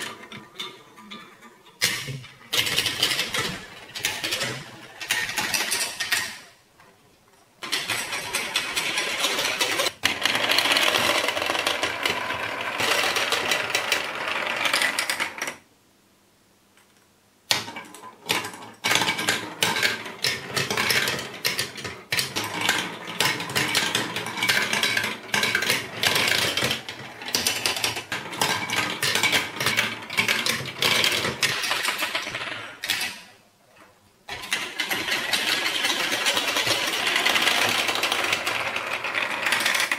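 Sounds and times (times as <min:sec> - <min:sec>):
plastic balls rattling down tracks: 0:00.0 - 0:06.6, 0:07.6 - 0:15.6, 0:17.5 - 0:33.4, 0:34.3 - 0:39.9.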